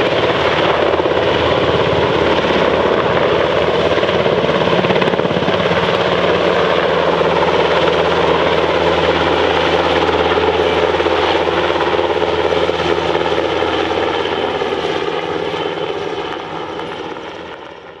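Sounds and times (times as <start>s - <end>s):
helicopter rotor beating chop: 0.0s - 18.0s.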